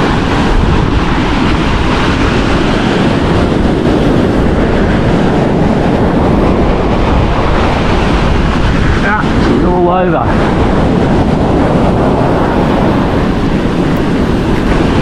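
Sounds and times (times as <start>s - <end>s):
surf washing on beach: 0.0s - 15.0s
wind noise on microphone: 0.0s - 15.0s.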